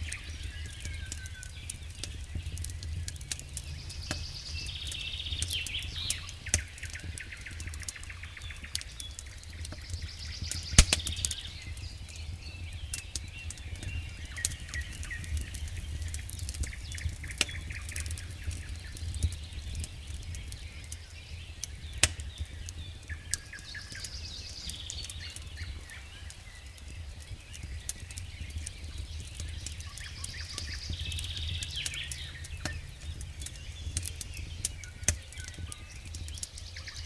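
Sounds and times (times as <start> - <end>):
steady low rumble: 0.0 - 36.7
birds chirping: 0.0 - 37.0
campfire crackling: 0.0 - 37.0
sharp fire pops: 0.0 - 37.0.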